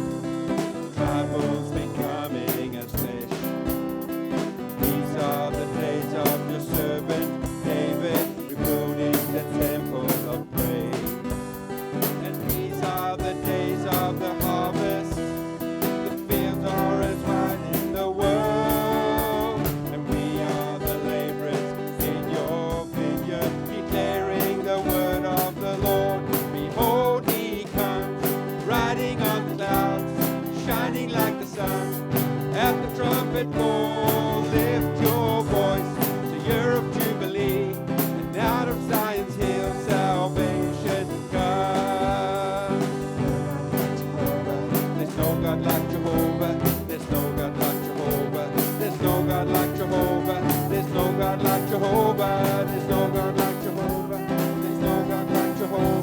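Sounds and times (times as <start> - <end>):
band playing upbeat gospel song: 0.0 - 56.0
guitar: 0.0 - 56.0
people singing: 0.0 - 56.0.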